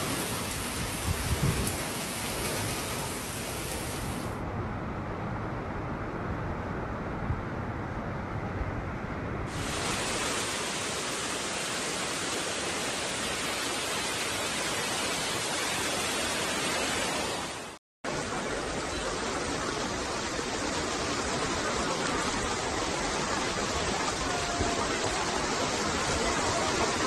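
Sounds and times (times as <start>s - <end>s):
water rushing: 0.0s - 4.4s, 9.5s - 27.0s.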